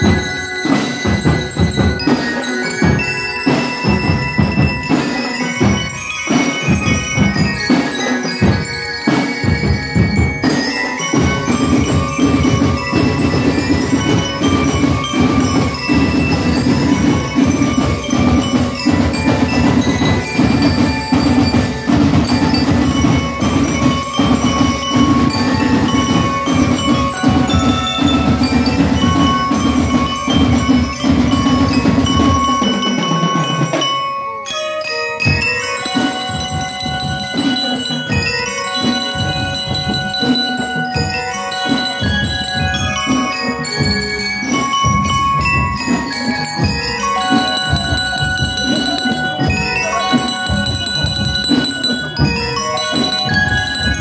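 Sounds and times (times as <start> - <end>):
snare drums: 0.0 - 34.2, 34.8 - 54.0
bells struck with mallets: 0.0 - 54.0.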